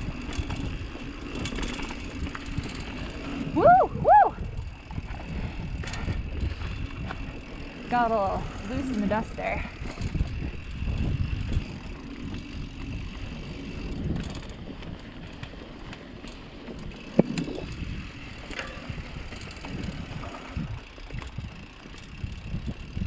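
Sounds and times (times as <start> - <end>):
bike rattling: 0.0 - 23.0
bike tyres on dirt trail: 0.0 - 23.0.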